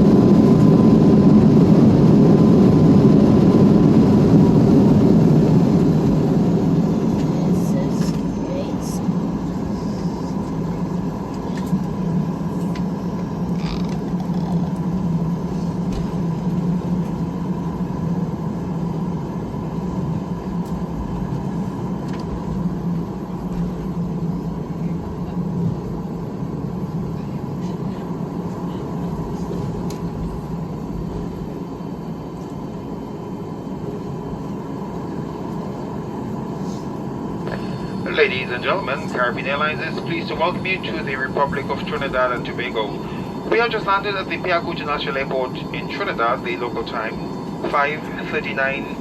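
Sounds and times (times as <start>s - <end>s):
airliner engines and airflow rumble: 0.0s - 49.0s.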